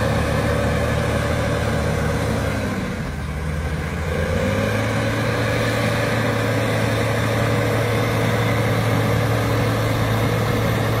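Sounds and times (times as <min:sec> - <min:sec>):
diesel engines droning: 0:00.0 - 0:11.0.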